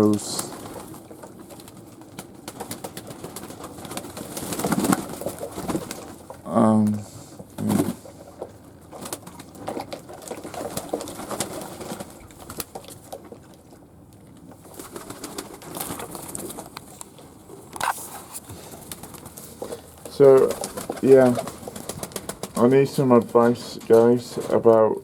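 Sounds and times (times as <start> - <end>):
doves cooing: 0.0 - 24.6.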